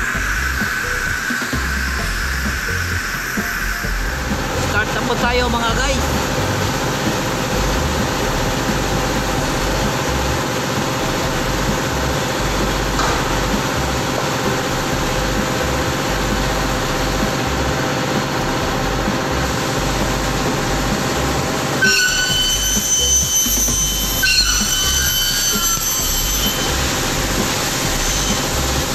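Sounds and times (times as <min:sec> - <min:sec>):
circular saw running: 0:00.0 - 0:28.9.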